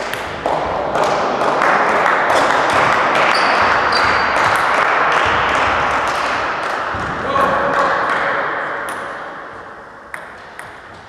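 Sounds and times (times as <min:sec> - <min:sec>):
table tennis ball bouncing: 0:00.0 - 0:07.2, 0:08.9 - 0:11.0.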